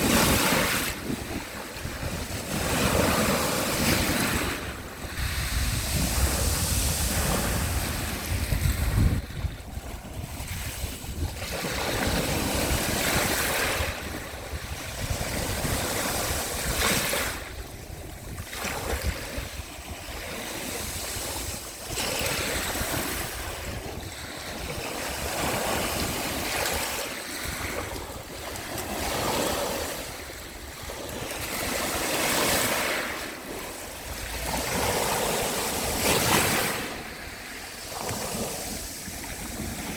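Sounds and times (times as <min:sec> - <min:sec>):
waves washing ashore: 0:00.0 - 0:39.9
wind rumble on microphone: 0:00.0 - 0:39.9.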